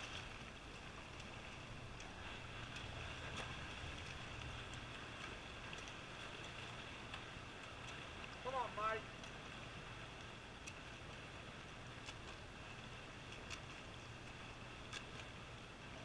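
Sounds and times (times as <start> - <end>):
faint steady noise: 0.0 - 16.0
swimmers splashing: 0.0 - 16.0.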